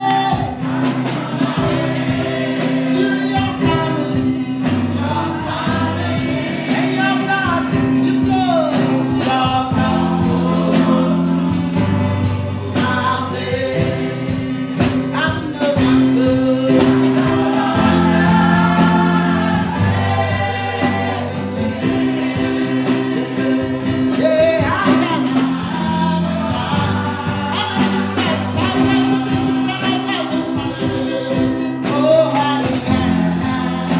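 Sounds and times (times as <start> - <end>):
gospel worship music: 0.0 - 33.9.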